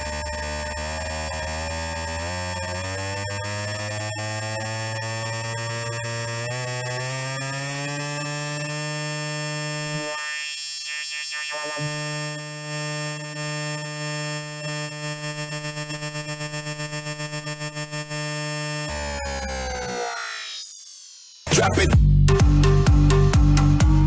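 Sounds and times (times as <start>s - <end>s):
electronic dance music build-up: 0.0s - 24.0s.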